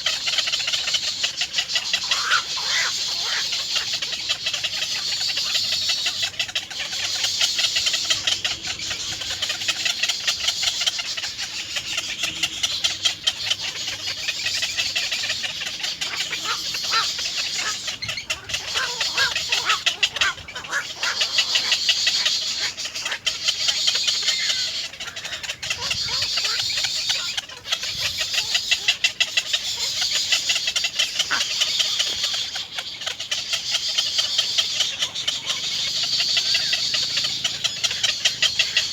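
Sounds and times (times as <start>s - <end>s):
egret chicks chattering calls: 0.0s - 38.9s.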